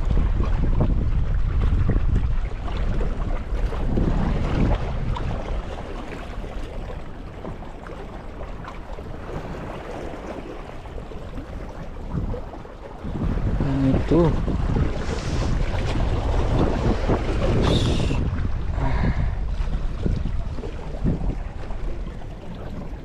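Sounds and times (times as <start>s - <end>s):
wind buffeting microphone: 0.0s - 23.0s
sea waves washing: 1.4s - 23.0s.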